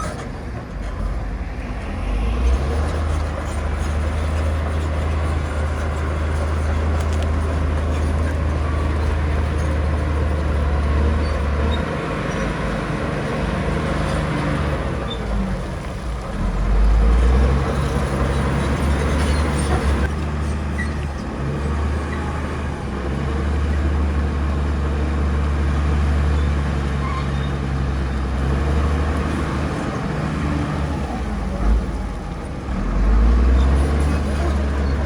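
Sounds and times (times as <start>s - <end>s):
heavy diesel engines rumbling: 0.0s - 35.0s.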